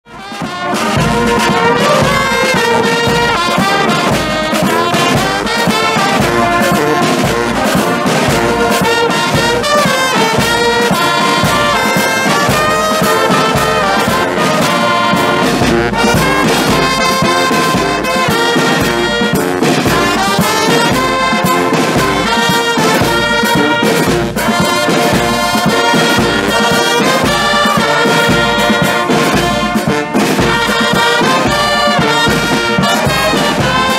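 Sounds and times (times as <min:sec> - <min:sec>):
brass band playing: 0:00.0 - 0:33.9.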